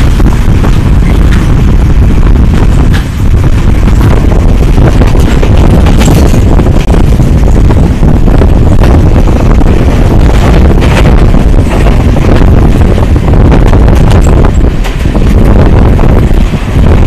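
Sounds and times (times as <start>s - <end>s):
train running on rails: 0.0s - 17.0s
wind buffeting microphone: 0.0s - 17.0s.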